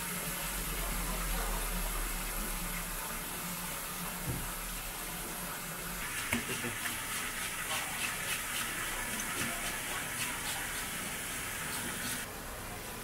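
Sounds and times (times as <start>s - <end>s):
tap water running: 0.0s - 12.3s.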